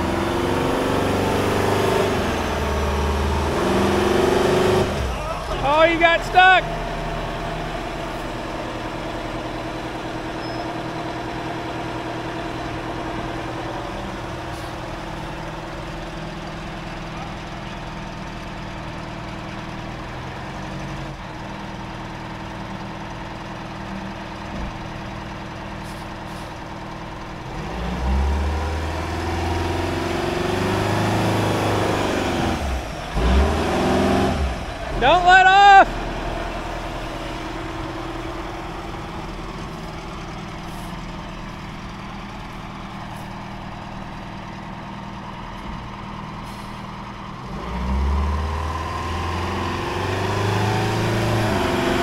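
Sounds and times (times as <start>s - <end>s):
diesel truck engine revving: 0.0s - 52.0s.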